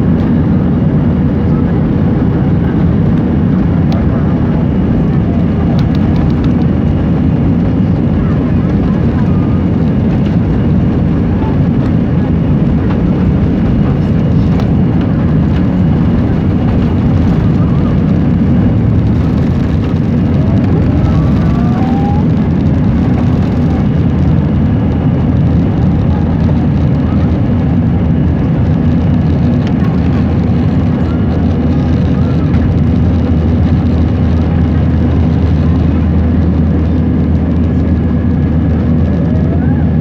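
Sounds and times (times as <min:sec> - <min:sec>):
jet engine and airflow rumble in cabin: 0:00.0 - 0:40.0.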